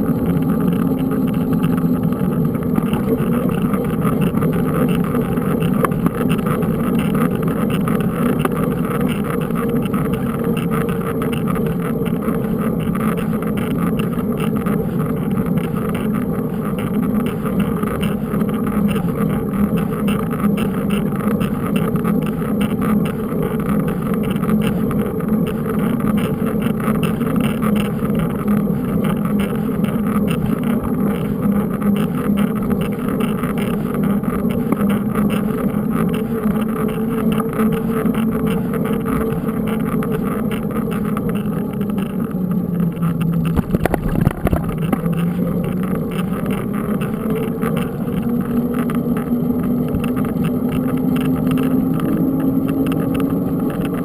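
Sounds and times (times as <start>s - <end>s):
mountain bike riding rumble: 0.0s - 54.0s.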